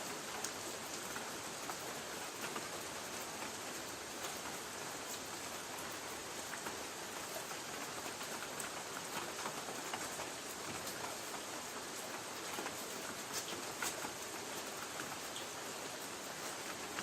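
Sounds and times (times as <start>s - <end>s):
rain pattering on a tin roof: 0.0s - 17.0s.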